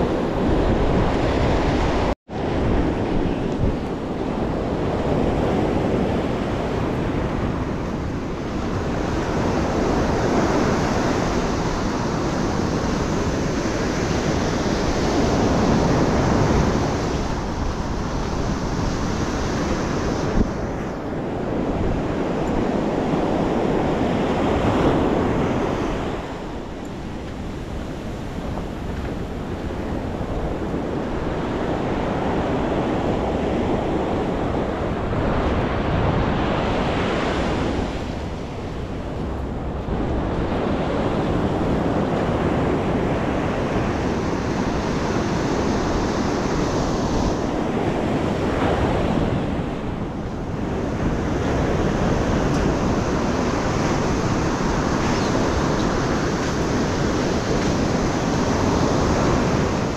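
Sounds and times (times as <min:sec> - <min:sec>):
ocean surf breaking on beach: 0:00.0 - 0:59.9
wind on microphone: 0:00.0 - 0:59.9.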